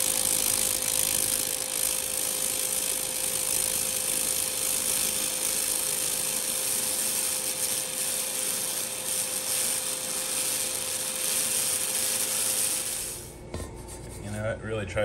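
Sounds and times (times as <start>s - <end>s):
laser cleaner hissing crackle: 0.0s - 13.4s.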